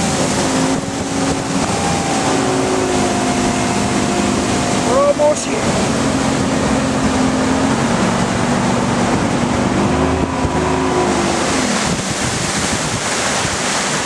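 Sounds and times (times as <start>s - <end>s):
outboard motor running: 0.0s - 14.0s
wind and water rushing: 0.0s - 14.0s.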